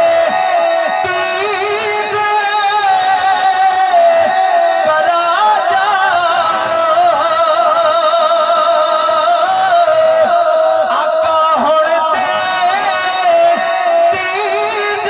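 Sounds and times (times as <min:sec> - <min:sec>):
man singing through loudspeaker: 0:00.0 - 0:15.0.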